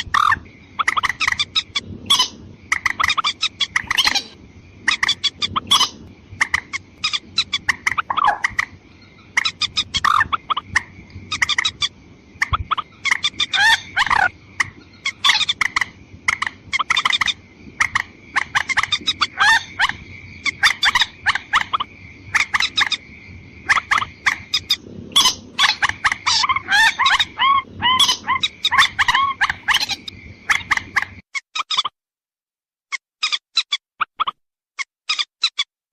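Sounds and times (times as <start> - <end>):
bird clucking calls: 0.0 - 31.9.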